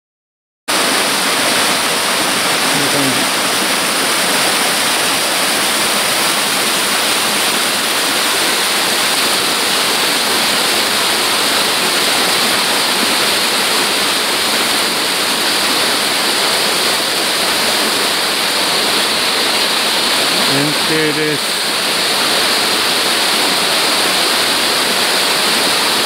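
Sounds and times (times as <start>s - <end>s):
mountain stream rushing over rocks: 0.7s - 26.0s.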